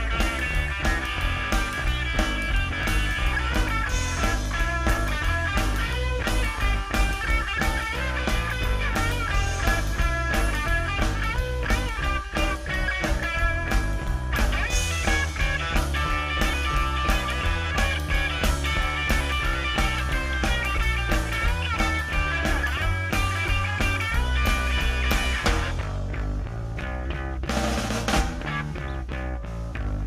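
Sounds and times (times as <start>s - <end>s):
drum kit beat: 0.0s - 29.0s
electric bass: 0.0s - 30.0s
electric guitar: 0.0s - 30.0s.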